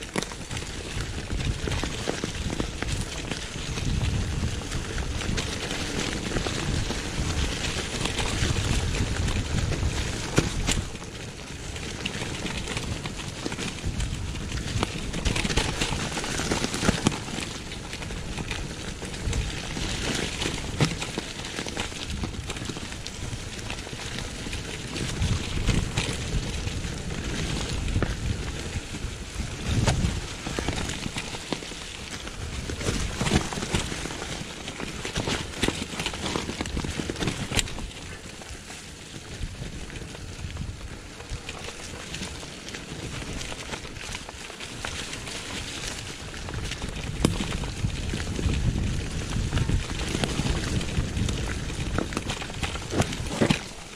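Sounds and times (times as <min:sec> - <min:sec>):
bike clicks and knocks over bumps: 0:00.0 - 0:53.9
bike tyres crackling over leaves: 0:00.0 - 0:53.9
wind rumble on microphone: 0:00.0 - 0:53.9.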